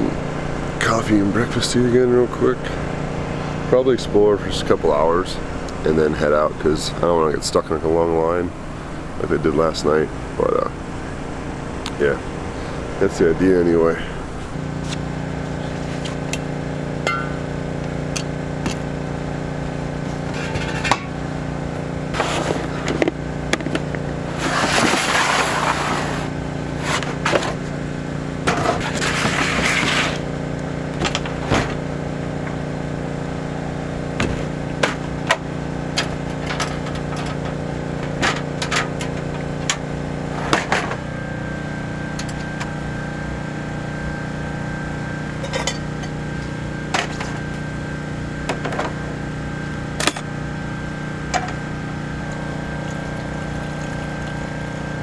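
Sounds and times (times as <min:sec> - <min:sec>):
low generator hum: 0:00.0 - 0:55.0.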